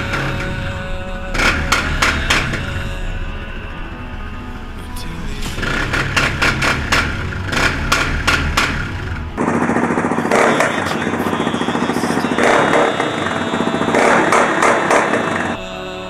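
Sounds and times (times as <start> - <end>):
quad engine revving: 0.0 - 15.6.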